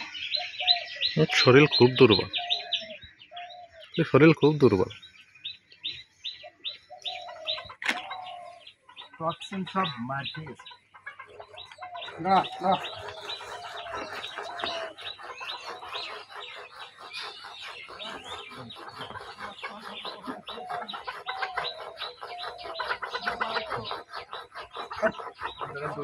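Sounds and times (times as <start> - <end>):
birds chirping: 0.0 - 26.0
low drawn-out bird calls: 0.0 - 26.0.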